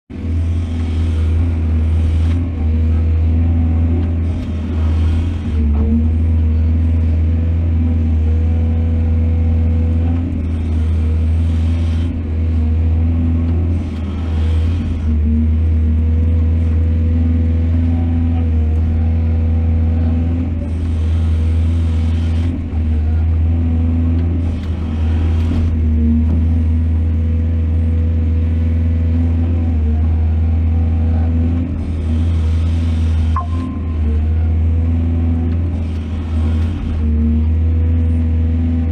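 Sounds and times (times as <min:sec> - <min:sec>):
excavator diesel engine running: 0:00.1 - 0:38.9.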